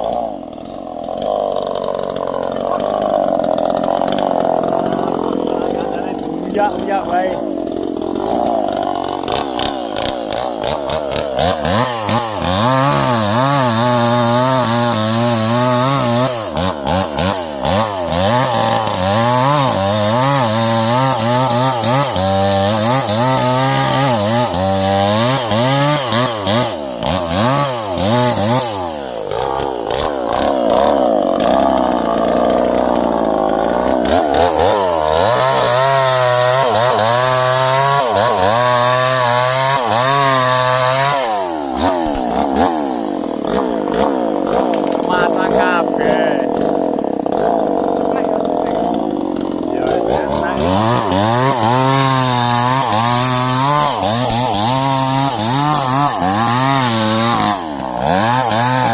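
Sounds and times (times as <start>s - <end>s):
chainsaw cutting: 0.0s - 58.9s.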